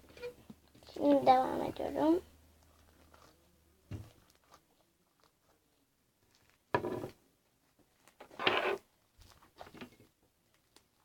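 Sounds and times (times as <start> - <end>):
slime squishing by hand: 2.0 - 11.0.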